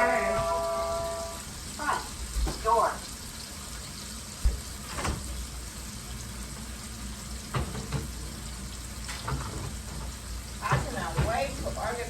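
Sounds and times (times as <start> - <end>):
burgers sizzling in a pan: 0.0 - 12.0.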